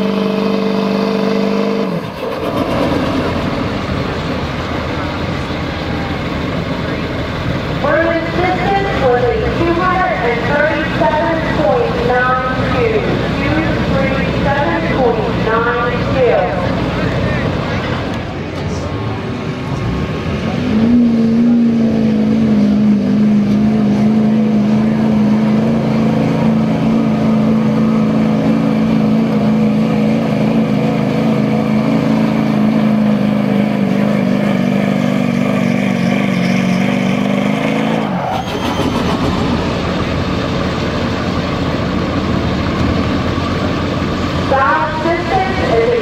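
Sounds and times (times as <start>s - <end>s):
diesel truck engine at full throttle: 0.0s - 46.0s.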